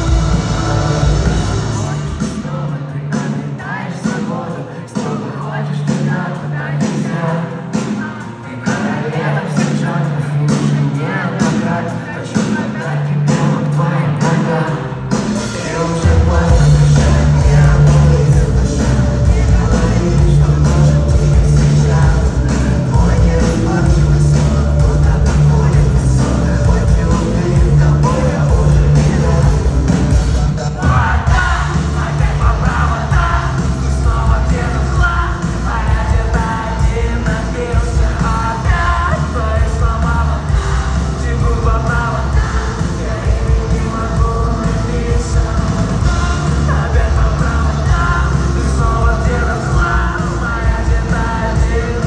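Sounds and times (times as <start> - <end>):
live rock band playing: 0.0 - 52.0
person singing: 0.0 - 52.0.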